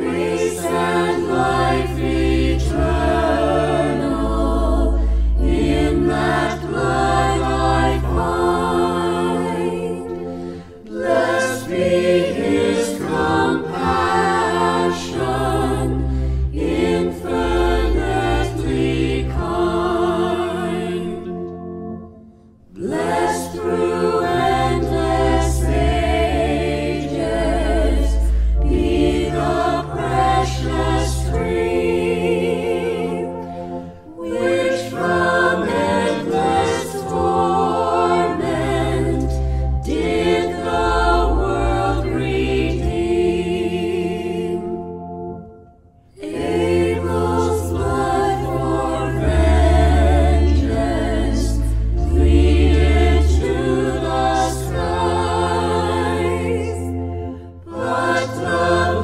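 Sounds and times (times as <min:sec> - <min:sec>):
choir singing a hymn: 0:00.0 - 0:59.0
organ with low pedal notes: 0:00.0 - 0:59.0.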